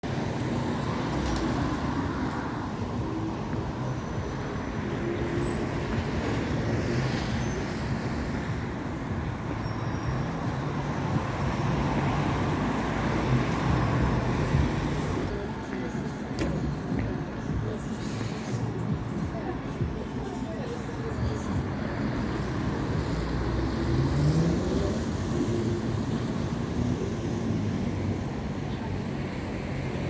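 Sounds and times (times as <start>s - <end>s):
road traffic hum: 0.0s - 30.0s.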